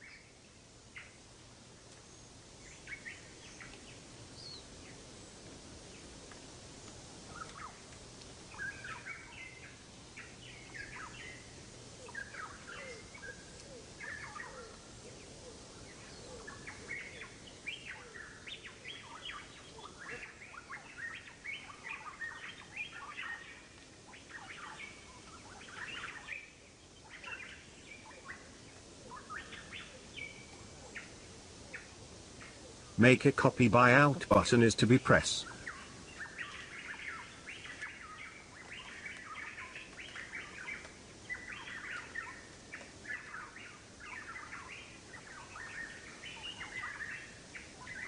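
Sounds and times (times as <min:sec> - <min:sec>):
faint steady hiss: 0:00.0 - 0:48.0
small birds chirping: 0:00.0 - 0:48.0.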